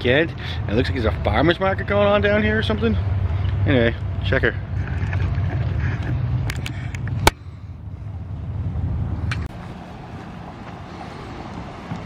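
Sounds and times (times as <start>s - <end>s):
car engine rumble: 0.0s - 12.0s
street background: 0.0s - 12.0s.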